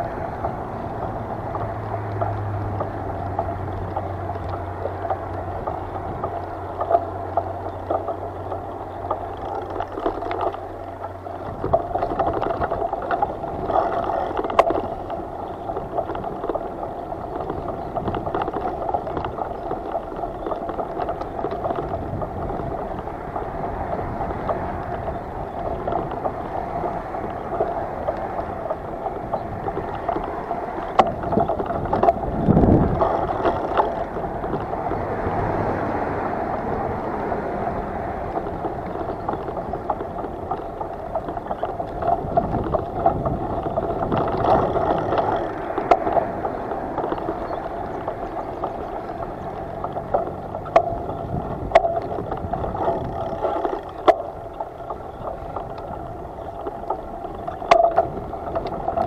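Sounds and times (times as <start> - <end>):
small splashes and clicks: 0.0 - 59.0
water rushing and gurgling: 0.0 - 59.0.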